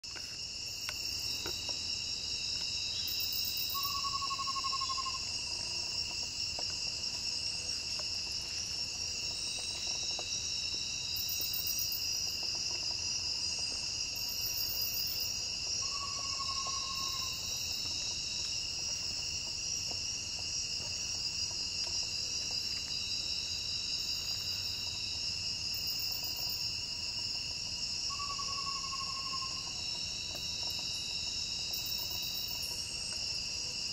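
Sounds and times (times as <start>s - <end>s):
crickets and insects chorus: 0.0s - 33.9s.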